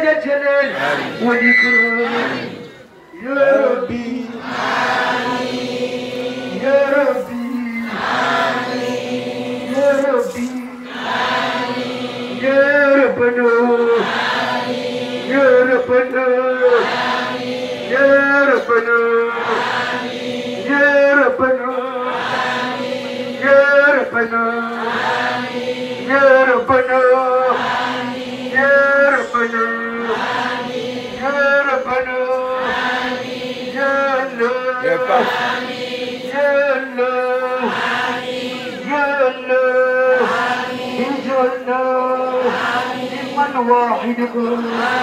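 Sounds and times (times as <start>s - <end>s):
person chanting a prayer: 0.0s - 2.6s, 3.2s - 45.0s.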